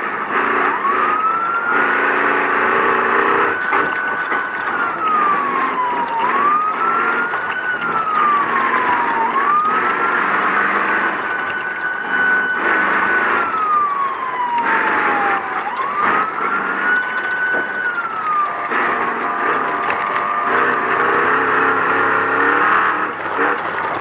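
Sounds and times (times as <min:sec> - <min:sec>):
electronic siren wailing: 0:00.0 - 0:24.0
road and wind noise: 0:00.0 - 0:24.0
truck engine under load: 0:00.0 - 0:24.0.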